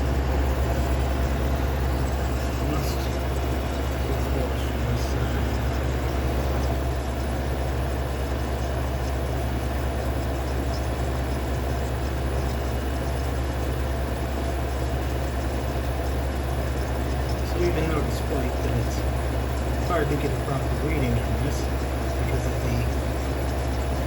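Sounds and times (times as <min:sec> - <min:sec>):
dehumidifier compressor hum: 0:00.0 - 0:24.0
fan rushing: 0:00.0 - 0:24.0.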